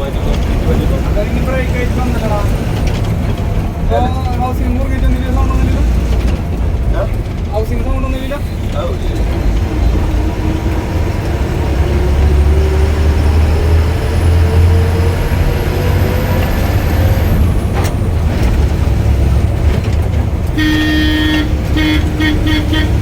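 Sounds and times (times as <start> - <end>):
bus engine rumbling: 0.0 - 23.0.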